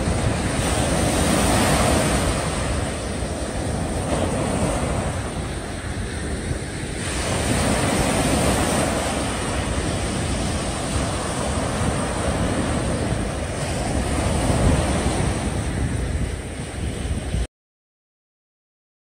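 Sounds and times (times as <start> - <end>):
waves washing at breakwater: 0.0 - 17.5
wind on microphone: 0.0 - 17.5.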